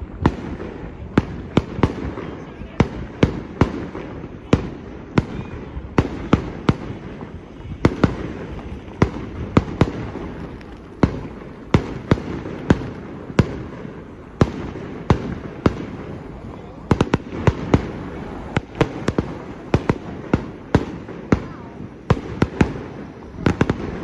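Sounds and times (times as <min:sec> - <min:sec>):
continuous rumble: 0:00.0 - 0:24.0
fireworks bursting with sharp bangs: 0:00.0 - 0:24.0.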